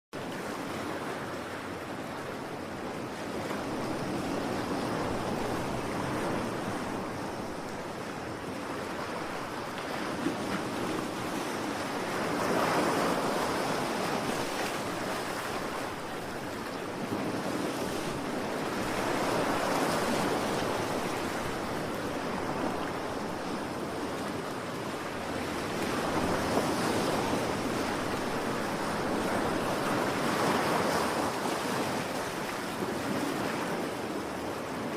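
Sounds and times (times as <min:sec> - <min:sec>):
ocean surf washing: 0:00.2 - 0:34.9.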